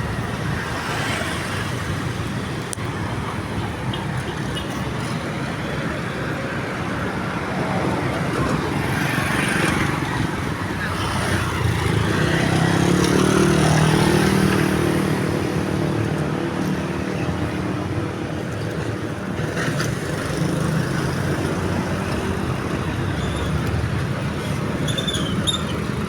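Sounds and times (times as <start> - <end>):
traffic hum: 0.0 - 26.0
vehicle engines passing: 0.0 - 26.0.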